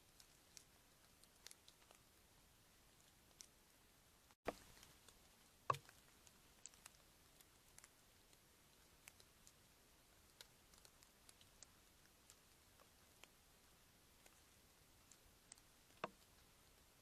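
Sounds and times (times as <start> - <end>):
faint clicks and ticks: 0.0 - 17.0.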